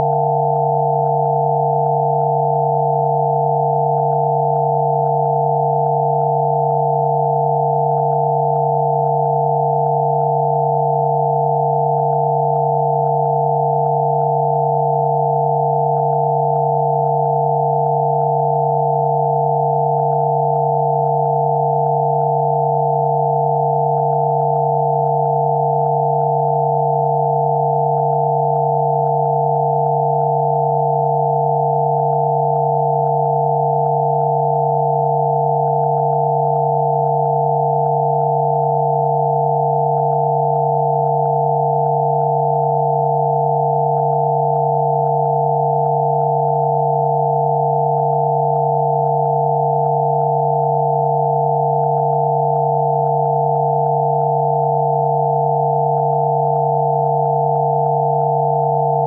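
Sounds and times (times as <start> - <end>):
high electronic sine tones: 0.0 - 59.0
low electronic sine tone: 0.0 - 59.0.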